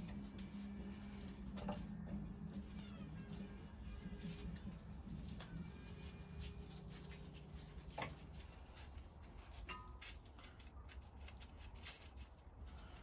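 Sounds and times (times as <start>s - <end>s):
engine parts rubbing and clicking: 0.0s - 13.0s
low steady hum: 0.0s - 13.0s.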